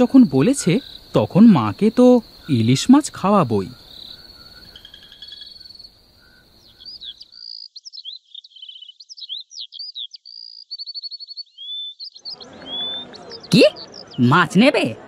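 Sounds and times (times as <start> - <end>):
crickets trilling: 0.0 - 12.4
songbirds chirping: 0.0 - 15.0.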